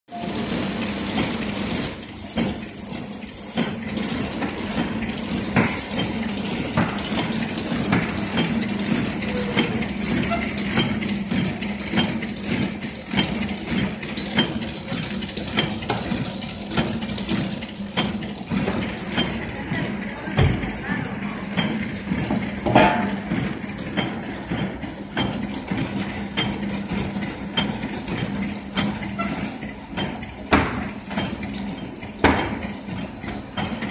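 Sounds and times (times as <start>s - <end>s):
sharp machine clacks: 0.1s - 33.9s
wrapping machine humming: 0.1s - 33.9s.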